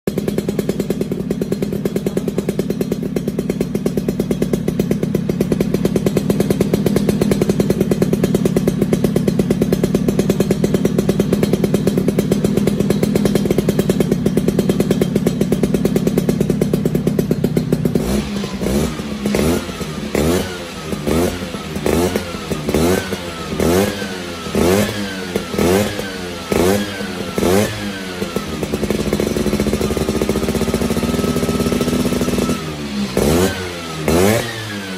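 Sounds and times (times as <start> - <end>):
scooter engine idling and revving: 0.0 - 34.9.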